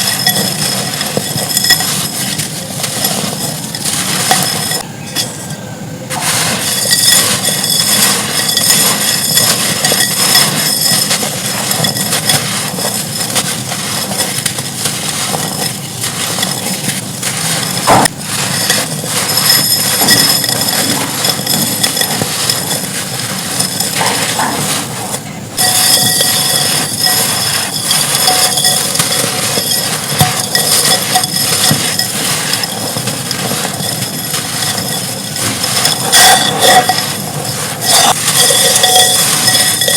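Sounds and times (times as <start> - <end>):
fragments clinking as they fall: 0.0 - 39.9
dry clay crunching by hand: 6.1 - 39.9.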